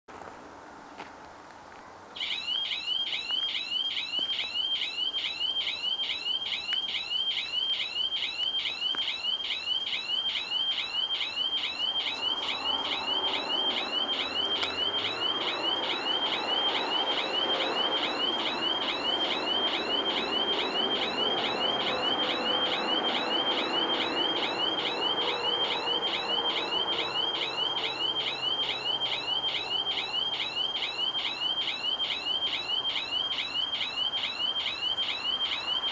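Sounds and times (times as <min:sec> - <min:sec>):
level-crossing warning bells: 0:02.2 - 0:35.9.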